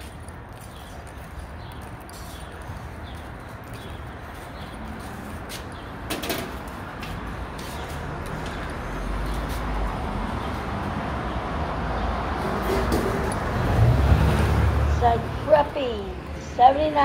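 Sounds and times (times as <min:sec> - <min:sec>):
traffic ambience: 0:00.0 - 0:17.0.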